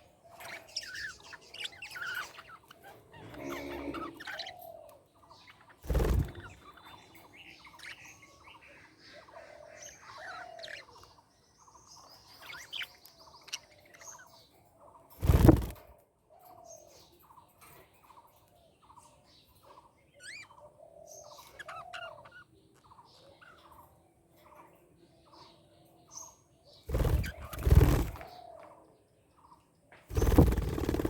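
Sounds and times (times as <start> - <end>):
budgerigars chirping and warbling: 0.0 - 15.8, 18.9 - 24.7, 25.3 - 28.5, 30.1 - 31.0.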